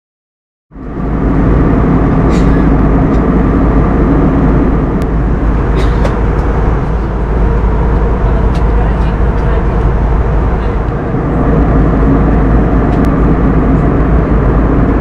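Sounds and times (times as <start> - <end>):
jet cabin engine and airflow noise: 0.7 - 15.0.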